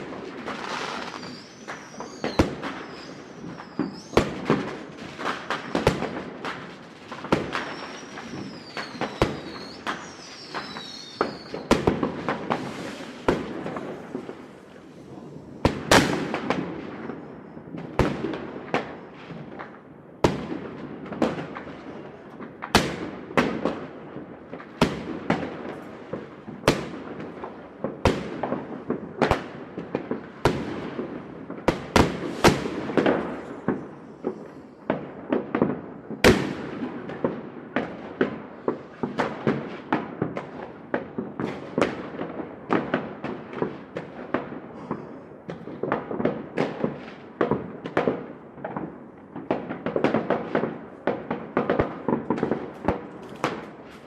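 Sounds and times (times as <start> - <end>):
firework bangs echoing: 0.0 - 19.6, 20.2 - 54.0
distant firework crackle: 0.0 - 54.0.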